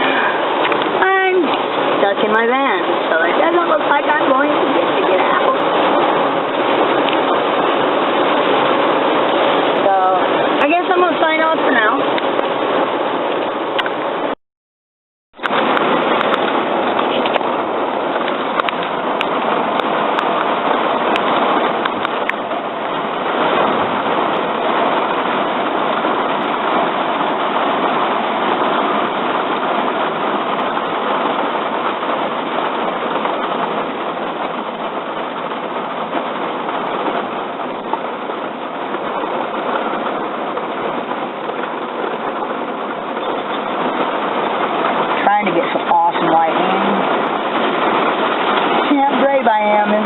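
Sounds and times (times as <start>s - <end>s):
heavy rain on a vehicle roof: 0.0s - 14.4s, 15.4s - 50.0s.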